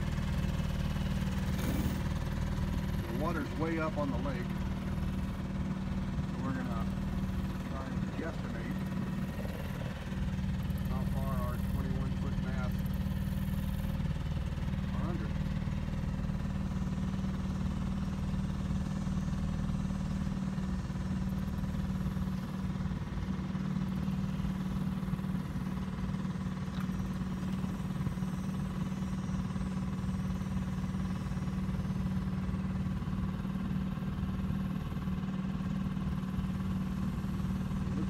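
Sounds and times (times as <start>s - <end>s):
outboard motor humming: 0.0s - 38.0s.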